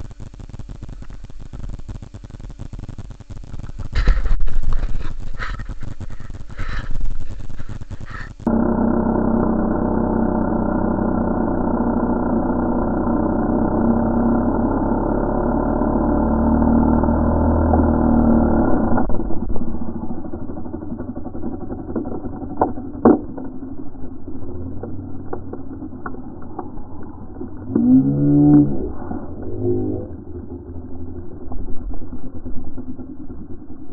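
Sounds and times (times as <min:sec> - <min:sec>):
chainsaw cutting wood: 0:03.9 - 0:33.9.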